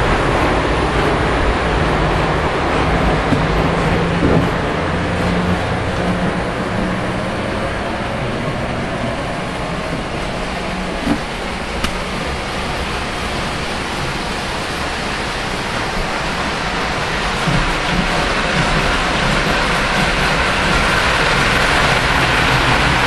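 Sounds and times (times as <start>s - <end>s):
model trains rumbling on track: 0.0s - 23.0s.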